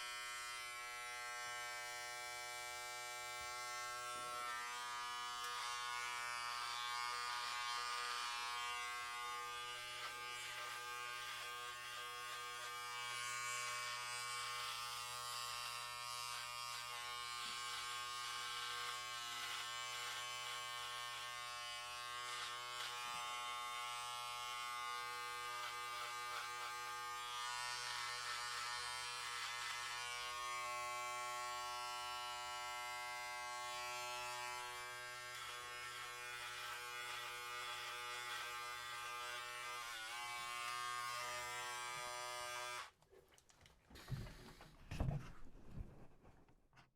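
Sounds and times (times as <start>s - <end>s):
electric hair clippers buzzing: 0.0s - 43.0s.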